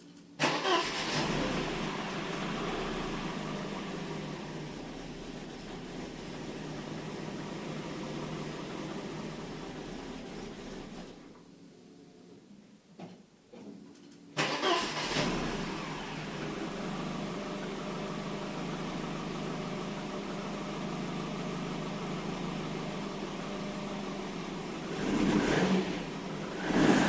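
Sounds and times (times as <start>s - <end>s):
car engine starting and idling: 0.4s - 11.3s, 14.4s - 27.0s.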